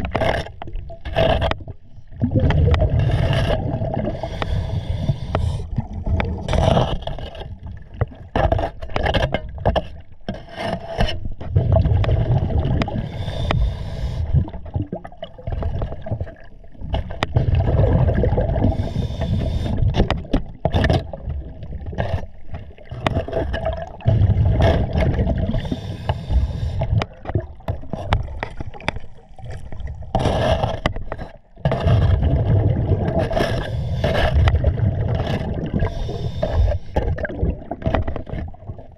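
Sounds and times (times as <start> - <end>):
diver's exhaled bubbles rumbling: 0.0 - 8.4, 11.4 - 38.9.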